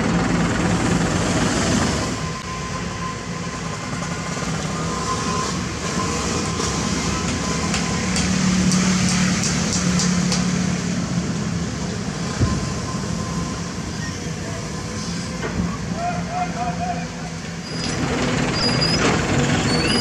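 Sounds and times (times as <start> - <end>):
excavator engine droning: 0.0 - 20.0.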